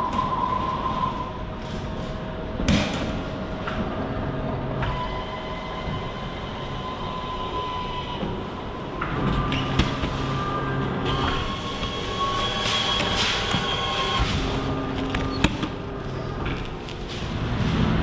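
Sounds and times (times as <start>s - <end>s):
vending machine motors whirring: 3.3s - 18.0s.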